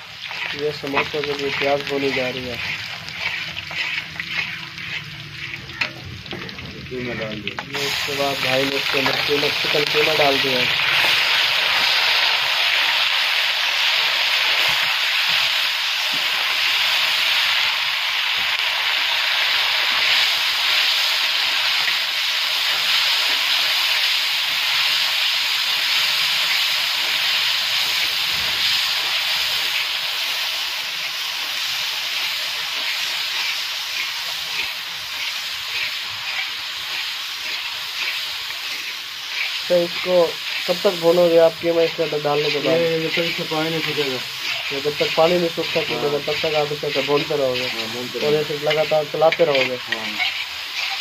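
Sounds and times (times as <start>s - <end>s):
meat sizzling in a pan: 0.0s - 51.0s.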